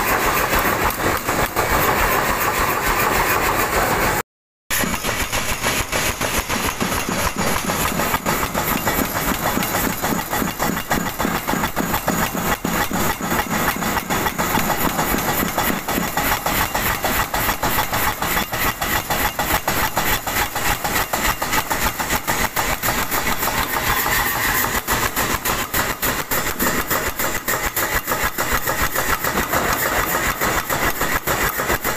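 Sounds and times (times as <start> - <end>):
fast stream of knocks: 0.0 - 31.9
forging machinery running: 0.0 - 31.9.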